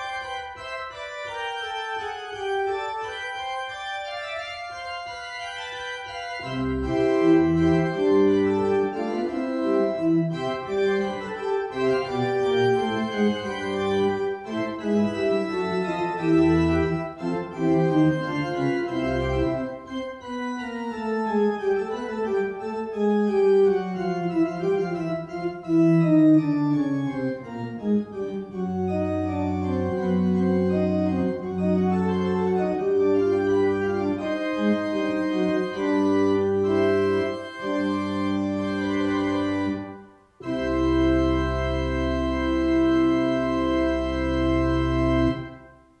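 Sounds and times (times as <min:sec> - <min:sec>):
church organ playing: 0:00.0 - 0:46.0.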